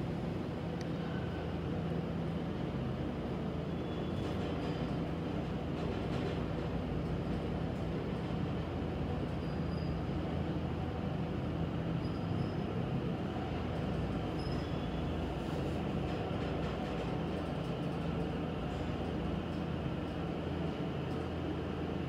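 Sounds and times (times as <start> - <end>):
elevator hum and rumble: 0.0 - 22.0.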